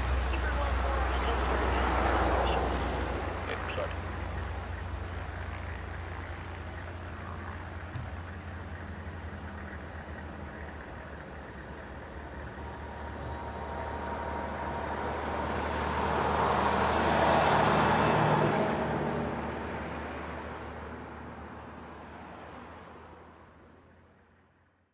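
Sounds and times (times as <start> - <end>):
turboprop aircraft passing: 0.0 - 24.7.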